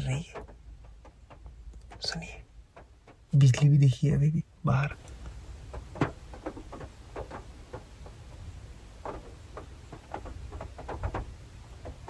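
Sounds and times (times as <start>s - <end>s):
low steady rumble: 0.0s - 12.0s
raindrops tapping on car roof: 0.0s - 12.0s.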